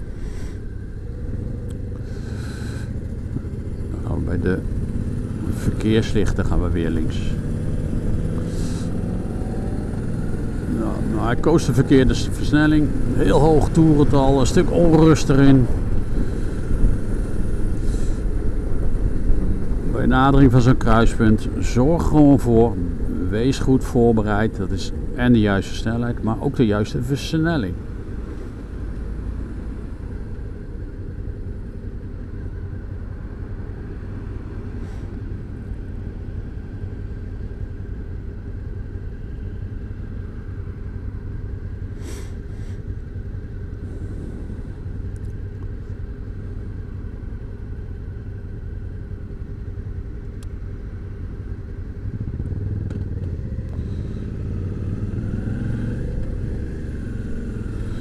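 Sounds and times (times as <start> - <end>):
motorcycle engine and road drone: 0.0 - 58.0.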